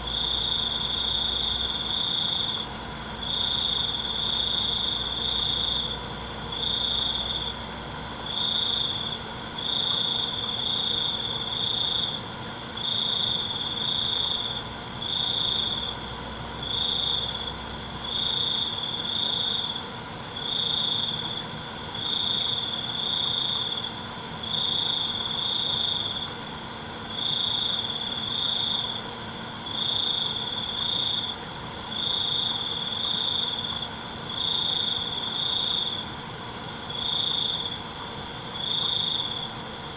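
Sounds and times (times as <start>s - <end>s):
loud cricket chirp: 0.0s - 39.9s.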